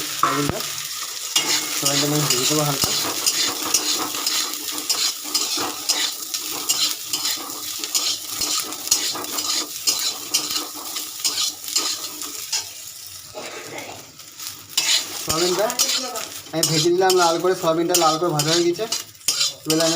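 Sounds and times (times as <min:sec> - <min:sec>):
food sizzling in hot oil: 0:00.0 - 0:19.9
spatula scraping a pan: 0:01.4 - 0:19.9.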